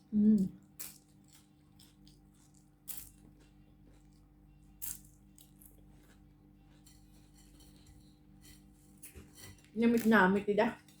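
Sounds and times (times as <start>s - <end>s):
crispy bread crunching: 0.6s - 11.0s.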